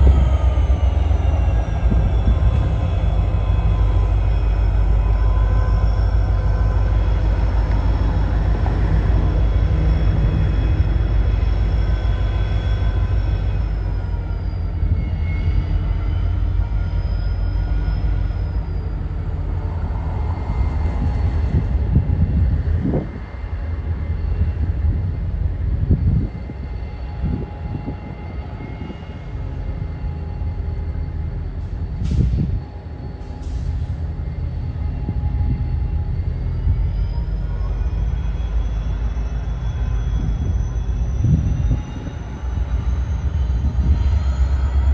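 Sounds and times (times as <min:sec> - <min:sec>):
high whining tones: 0:00.0 - 0:44.9
train engine rumble: 0:00.0 - 0:44.9.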